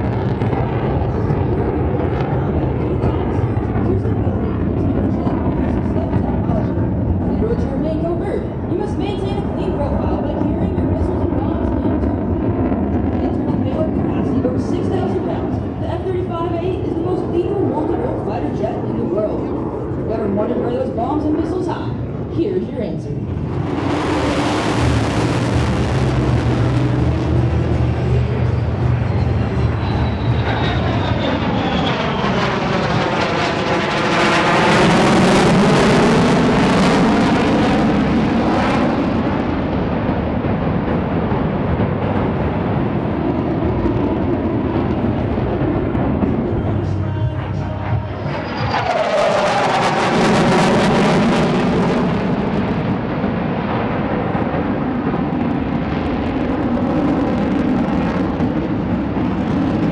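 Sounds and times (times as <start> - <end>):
fighter jet passing: 0.0 - 46.7, 47.9 - 59.9.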